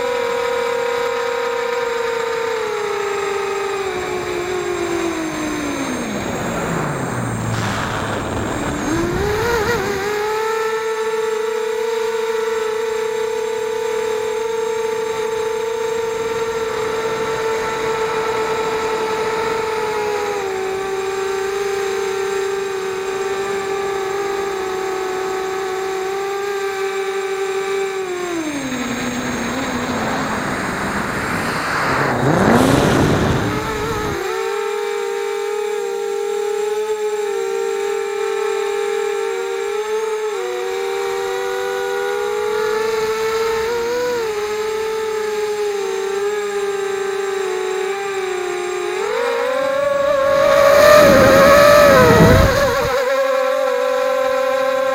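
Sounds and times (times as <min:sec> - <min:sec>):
quadcopter propellers whining: 0:00.0 - 0:54.9.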